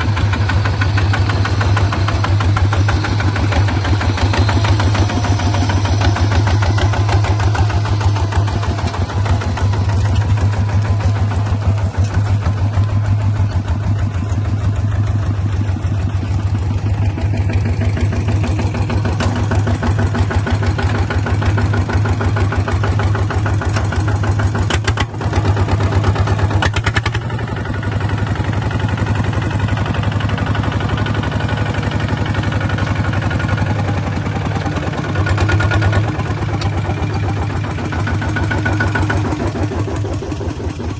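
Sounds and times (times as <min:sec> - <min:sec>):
small bulldozer engine running: 0:00.0 - 0:40.9.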